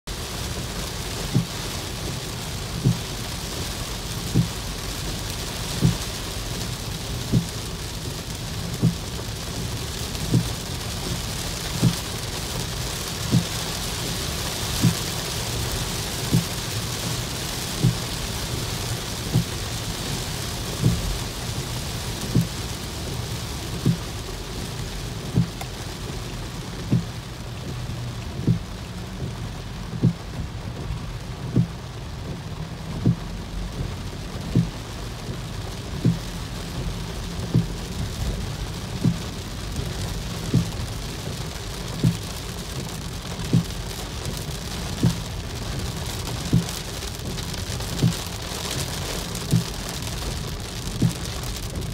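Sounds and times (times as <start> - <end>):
rain hissing on windshield: 0.1 - 51.9
windshield wipers thumping: 0.2 - 51.9.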